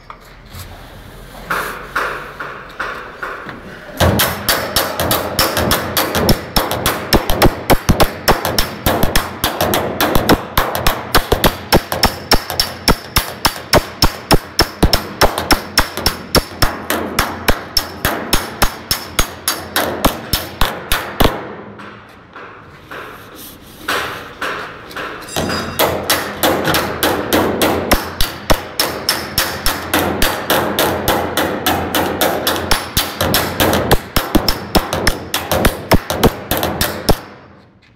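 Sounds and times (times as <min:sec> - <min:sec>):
hammer beating sheet steel: 0:01.5 - 0:37.6.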